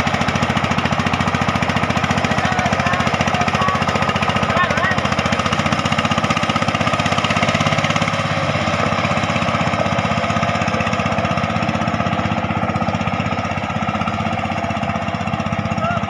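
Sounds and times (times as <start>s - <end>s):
diesel engine chugging: 0.0s - 16.0s.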